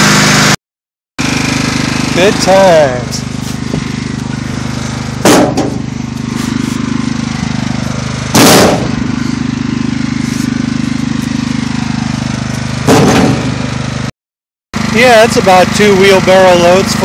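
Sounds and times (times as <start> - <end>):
lawn tractor engine running: 0.0 - 0.6, 1.2 - 14.1, 14.8 - 17.0.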